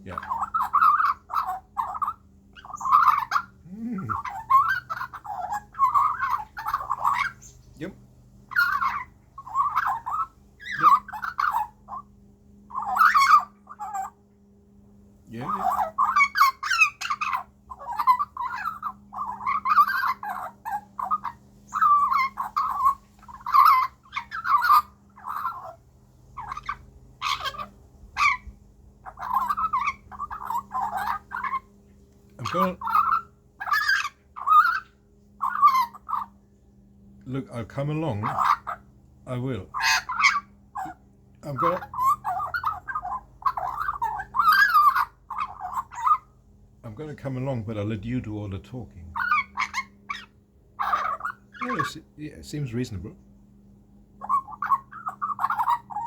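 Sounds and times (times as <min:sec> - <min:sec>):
young magpie calling: 0:00.0 - 0:07.8, 0:08.5 - 0:14.2, 0:15.3 - 0:36.6, 0:37.3 - 0:53.0, 0:54.1 - 0:56.0.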